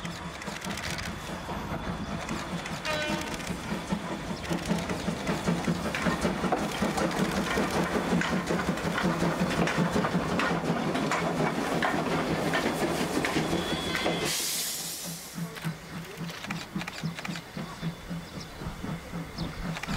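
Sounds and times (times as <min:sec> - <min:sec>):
train wheels clattering on rails: 0:00.0 - 0:19.9.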